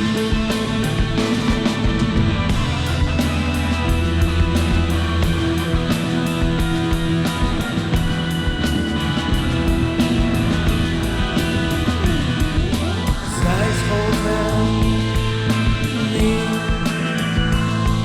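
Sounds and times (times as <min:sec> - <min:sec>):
bass notes: 0:00.0 - 0:18.0
drum beat: 0:00.0 - 0:18.0
electric guitar: 0:00.0 - 0:18.0.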